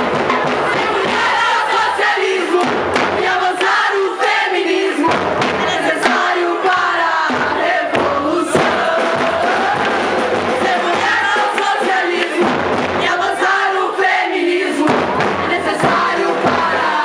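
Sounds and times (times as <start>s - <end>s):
sharp percussion hits: 0.0s - 17.0s
women singing and chanting: 0.0s - 17.0s.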